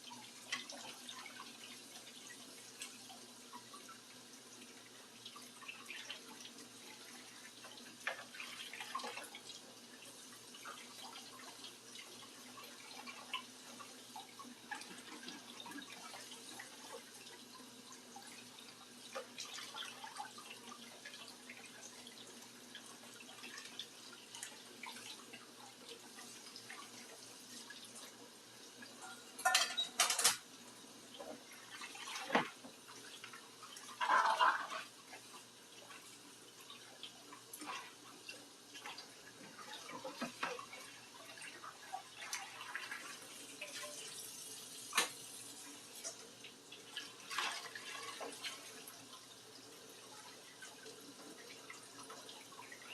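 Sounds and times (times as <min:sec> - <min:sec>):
tap water running: 0:00.0 - 0:52.9.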